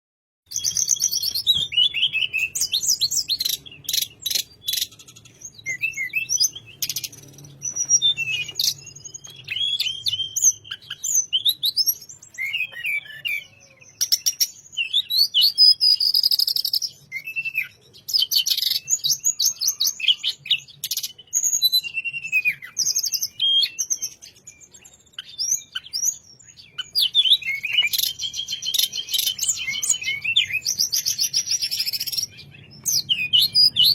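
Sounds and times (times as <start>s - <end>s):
songbird warbling song: 0.5s - 33.9s.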